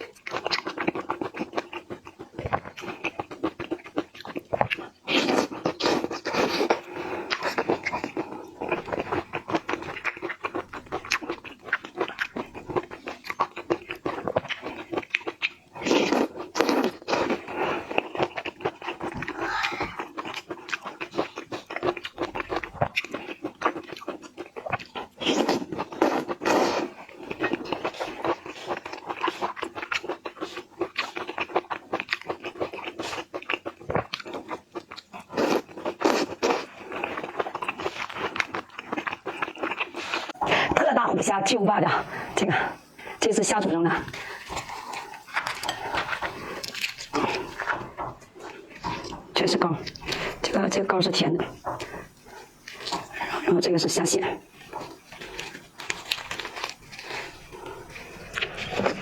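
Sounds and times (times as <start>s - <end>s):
person chewing and crunching: 0.0s - 40.8s, 44.0s - 59.0s.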